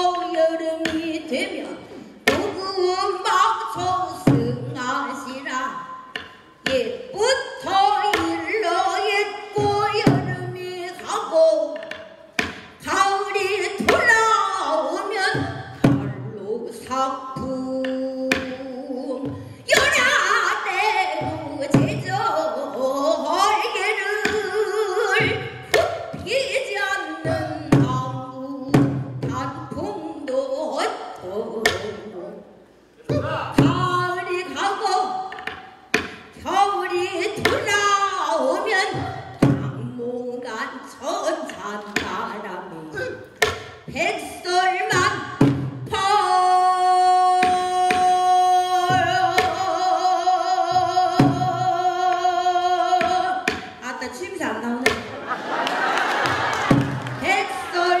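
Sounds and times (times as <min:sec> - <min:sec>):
woman singing with heavy vibrato: 0:00.0 - 0:55.3, 0:56.3 - 0:58.0.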